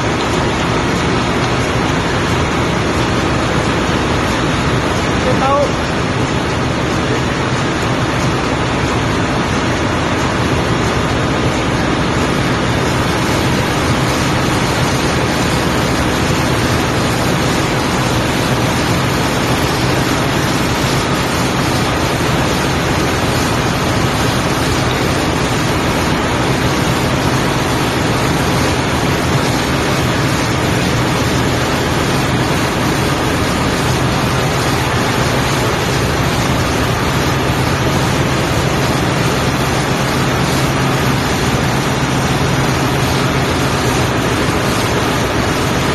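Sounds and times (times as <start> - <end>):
engine room machinery running: 0.0 - 45.9.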